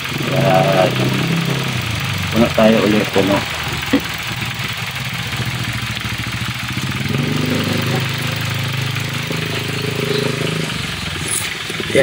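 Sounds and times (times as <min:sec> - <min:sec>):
engine idling: 0:00.0 - 0:12.0
second higher engine note: 0:00.0 - 0:12.0.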